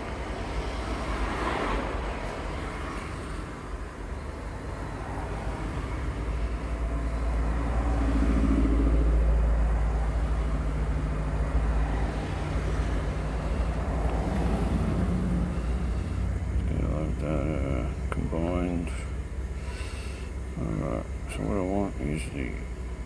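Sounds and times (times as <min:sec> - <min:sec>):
car engine idling: 0:02.5 - 0:23.0.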